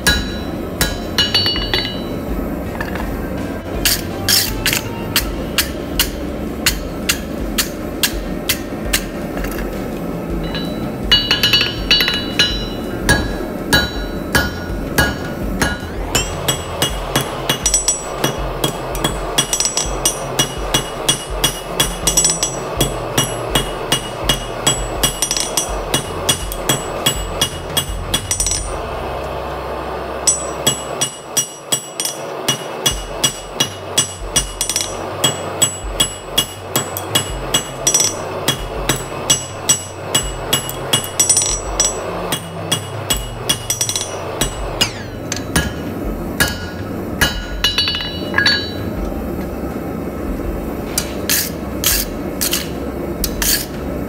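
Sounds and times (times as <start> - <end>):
hammer striking steel on anvil: 0.0 - 28.9, 30.2 - 49.5, 50.9 - 53.9.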